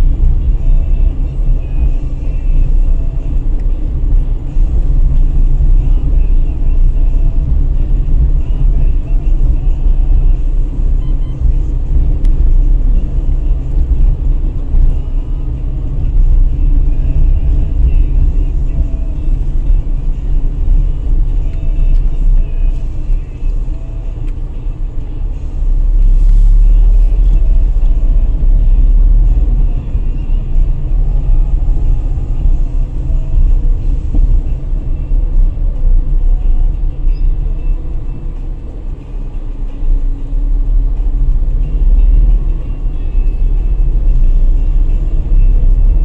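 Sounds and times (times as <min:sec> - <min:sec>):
car engine and tyres rumbling: 0:00.0 - 0:46.0.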